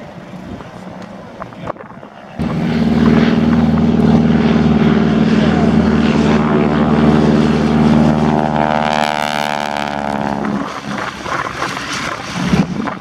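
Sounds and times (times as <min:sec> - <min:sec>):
propeller plane engine running: 0:00.0 - 0:13.0
rough wind-like noise: 0:00.0 - 0:13.0.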